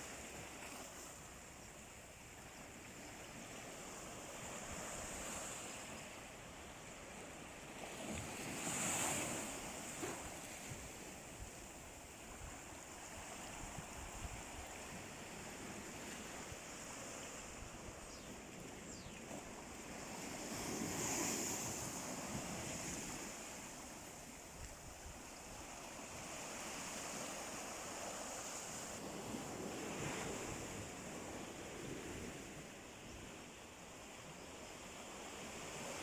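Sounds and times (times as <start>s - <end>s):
sea waves washing on shore: 0.0s - 36.0s.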